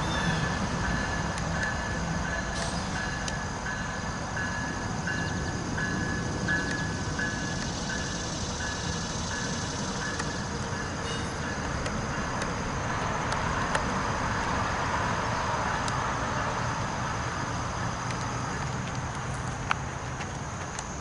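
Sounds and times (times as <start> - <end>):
train rolling on rails: 0.0 - 21.0.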